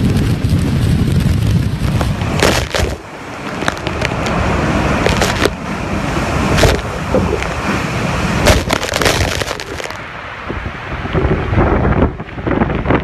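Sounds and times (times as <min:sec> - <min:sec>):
wind and rain on microphone: 0:00.0 - 0:13.0.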